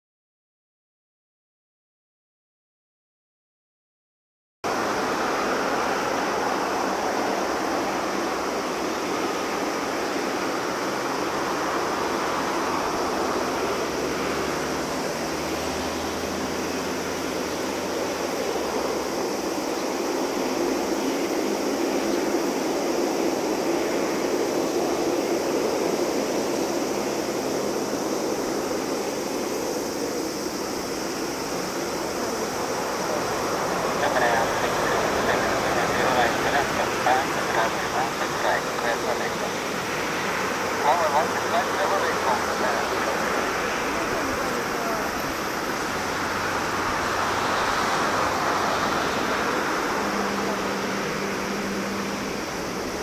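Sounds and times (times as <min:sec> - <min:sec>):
jet engine rumble and whine: 0:04.7 - 0:53.0.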